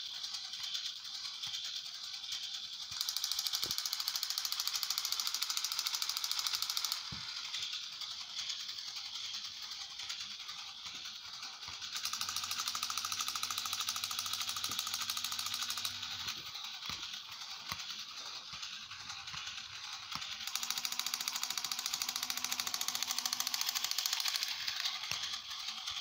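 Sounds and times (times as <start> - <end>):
toy gear mechanism clicking: 0.0 - 26.0
toy motor whir: 0.0 - 26.0.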